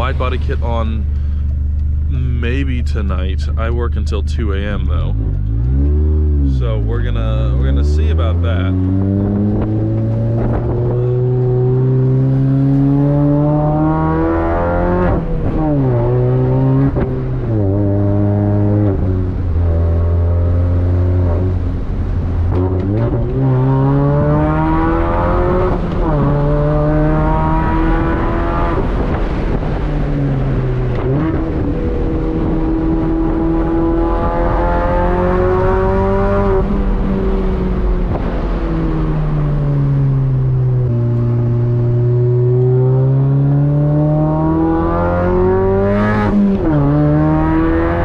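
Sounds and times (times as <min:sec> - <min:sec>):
car engine accelerating: 0:00.0 - 0:48.0.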